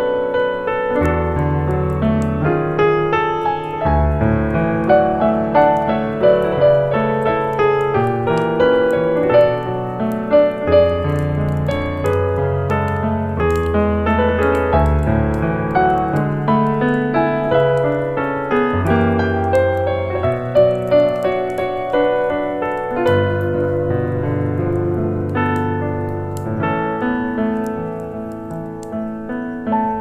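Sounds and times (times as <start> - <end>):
fireplace crackling: 0.0 - 30.0
slow jazz piano: 0.0 - 30.0.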